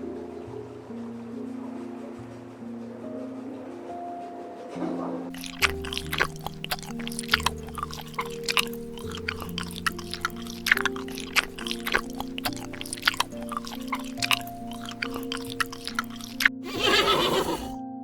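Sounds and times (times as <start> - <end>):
background music with held notes: 0.0 - 18.0.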